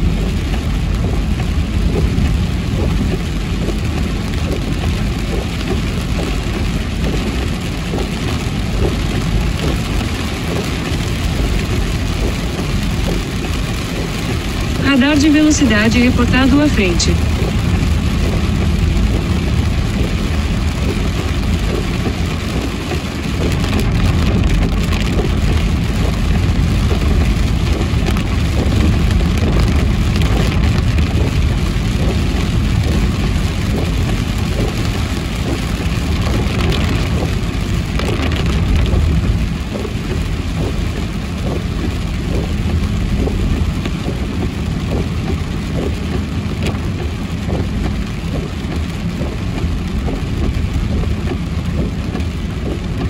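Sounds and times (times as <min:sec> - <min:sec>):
engine and road rumble: 0:00.0 - 0:53.0
rain hitting car: 0:00.0 - 0:53.0.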